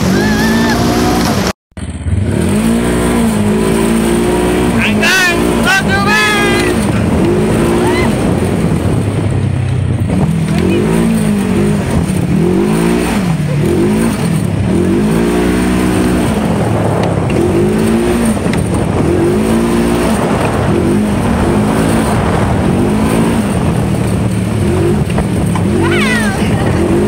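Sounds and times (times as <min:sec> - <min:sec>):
utility vehicle engine revving: 0:00.0 - 0:27.0.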